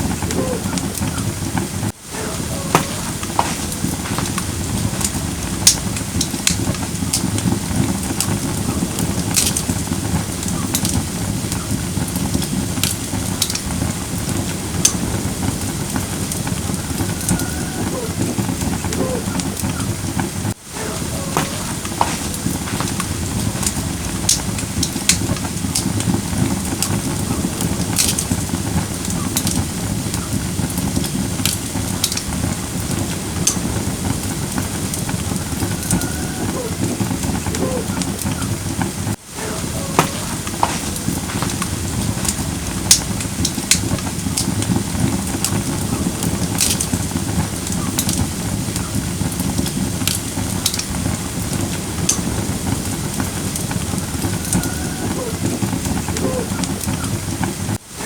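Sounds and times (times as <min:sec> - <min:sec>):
fire crackling and popping: 0:00.0 - 0:58.0
fire flames rushing: 0:00.0 - 0:58.0.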